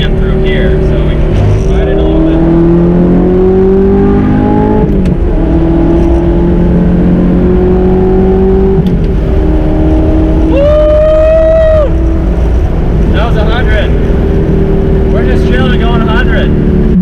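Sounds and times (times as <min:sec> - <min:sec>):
car engine revving under throttle: 0:00.0 - 0:17.0.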